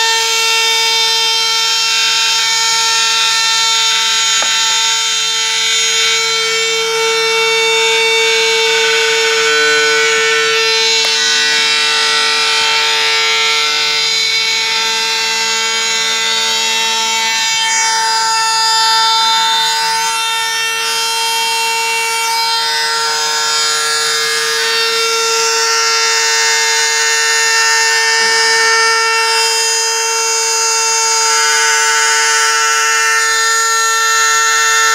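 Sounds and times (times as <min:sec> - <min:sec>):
spindle motor whine: 0:00.0 - 0:34.9.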